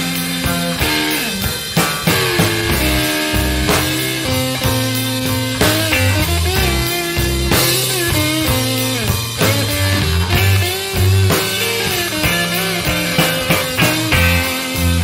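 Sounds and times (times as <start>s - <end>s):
blues band playing: 0.0s - 15.0s
lead guitar bending notes: 0.0s - 15.0s.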